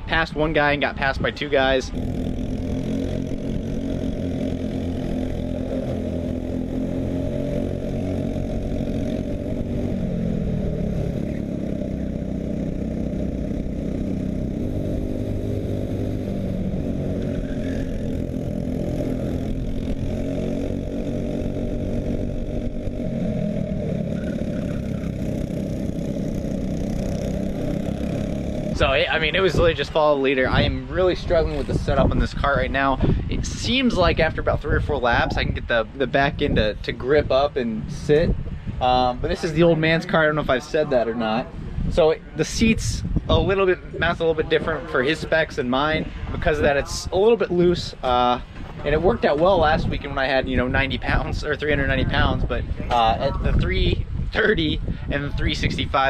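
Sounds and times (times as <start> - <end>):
kart engine racing: 0.0 - 56.0.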